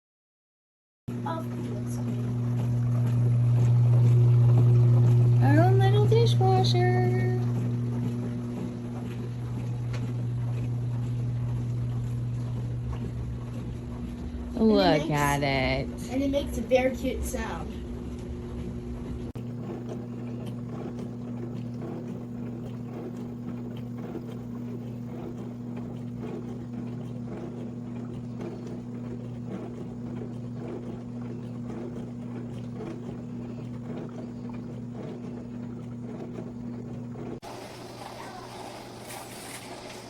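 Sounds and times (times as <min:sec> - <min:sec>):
dishwasher motor hum: 0:01.1 - 0:40.0
water spraying inside dishwasher: 0:01.2 - 0:17.6, 0:19.3 - 0:40.0.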